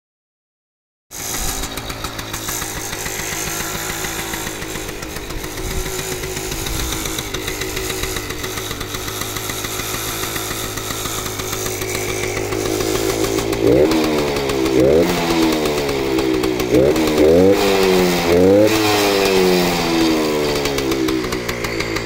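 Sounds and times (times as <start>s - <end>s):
two-stroke engine idling: 1.2s - 22.0s.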